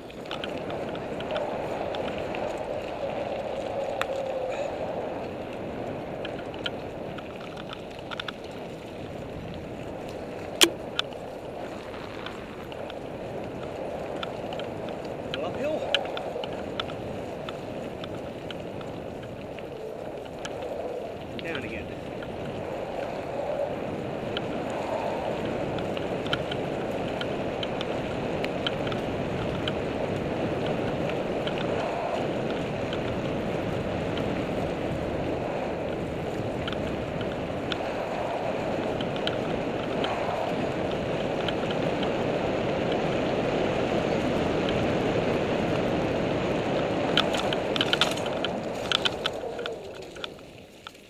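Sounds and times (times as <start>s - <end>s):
bike rattles and clicks: 0.0s - 51.0s
bike tyre noise on gravel: 0.0s - 51.0s
wind rush on microphone: 0.0s - 51.0s.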